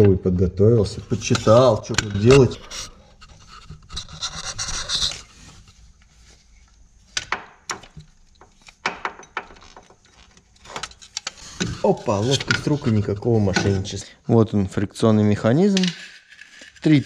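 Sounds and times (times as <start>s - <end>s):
parts rubbing and scraping: 0.8s - 14.1s, 15.1s - 17.0s.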